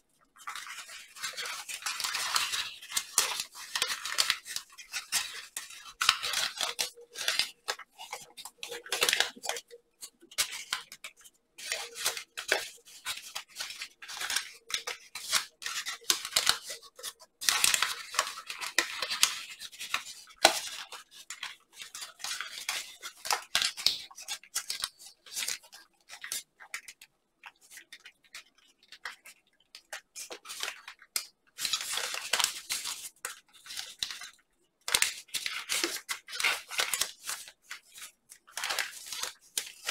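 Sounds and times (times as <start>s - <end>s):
paper rustling and crinkling: 0.2s - 39.9s.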